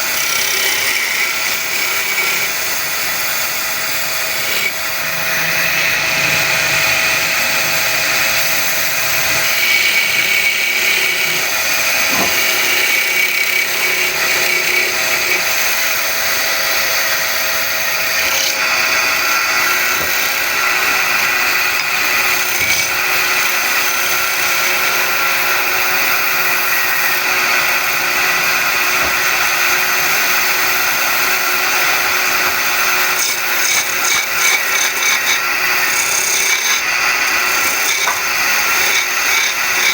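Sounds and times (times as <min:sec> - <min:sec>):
tool hissing on spinning wood: 0:00.0 - 0:39.9
wood lathe motor whine: 0:00.0 - 0:39.9.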